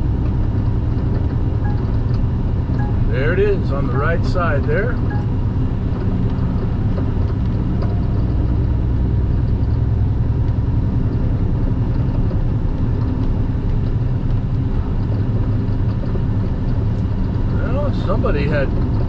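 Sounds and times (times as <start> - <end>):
road noise: 0.0 - 19.0
truck diesel engine droning: 0.0 - 19.0.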